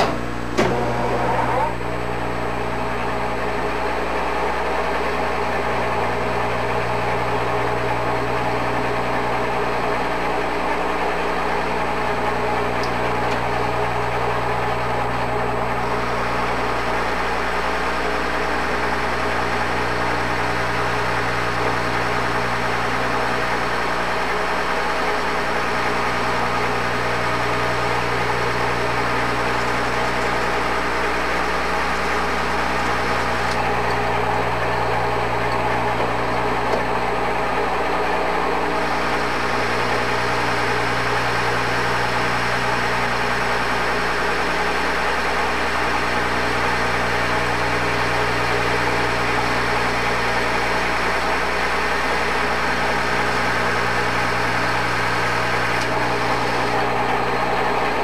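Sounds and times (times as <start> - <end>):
lathe machine hum: 0.0 - 58.0.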